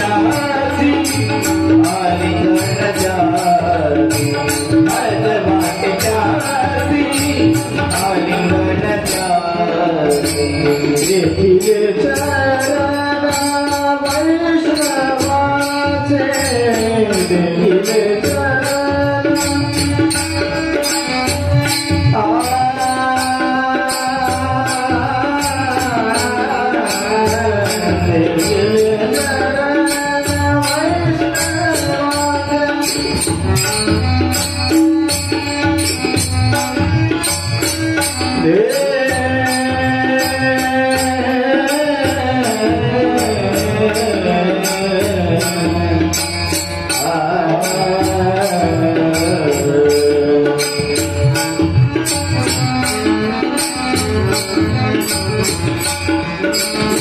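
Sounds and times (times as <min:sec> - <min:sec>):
man singing: 0:00.0 - 0:57.0.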